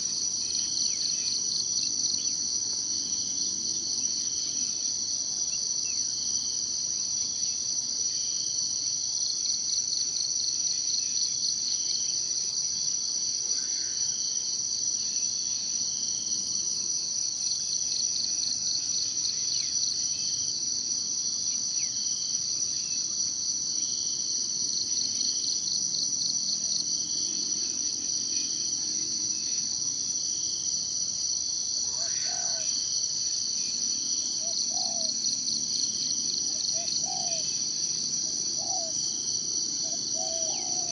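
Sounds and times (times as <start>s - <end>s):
insect chorus trilling: 0.0s - 40.9s.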